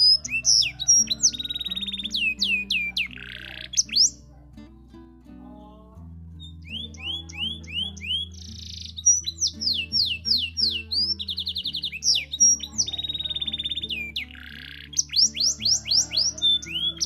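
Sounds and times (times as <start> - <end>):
canary singing: 0.0 - 17.0
soft music with low notes: 0.0 - 17.0.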